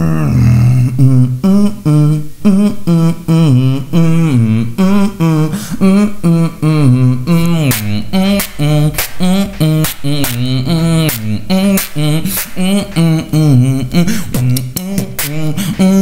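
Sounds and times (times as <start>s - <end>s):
person humming a melody: 0.0s - 16.0s.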